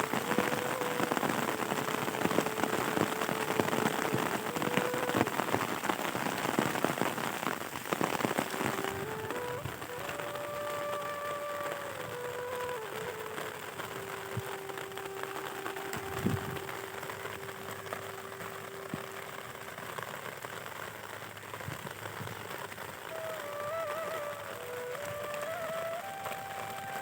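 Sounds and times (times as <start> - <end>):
hailstones falling: 0.0 - 27.0
heavy rain pouring: 0.0 - 27.0.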